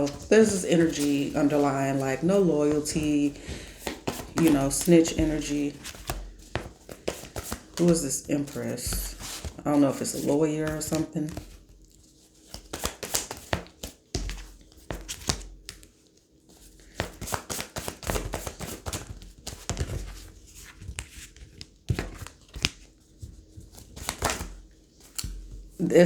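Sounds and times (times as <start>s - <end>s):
cards being shuffled: 0.0s - 15.9s, 16.5s - 25.7s.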